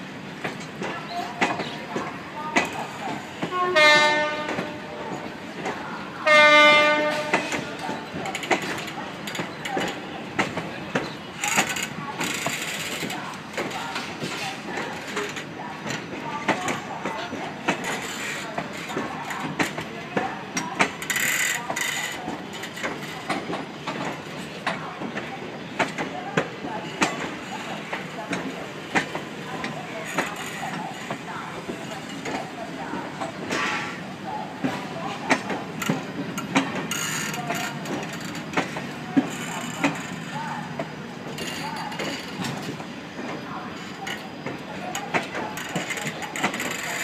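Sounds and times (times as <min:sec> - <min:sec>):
train wheels clanking over rail joints: 0:06.6 - 0:47.0.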